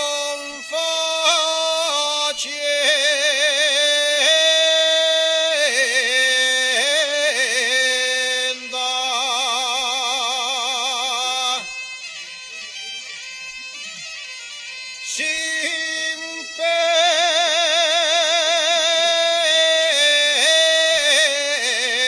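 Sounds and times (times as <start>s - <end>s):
man singing with vibrato: 0.0s - 12.0s, 14.8s - 22.0s.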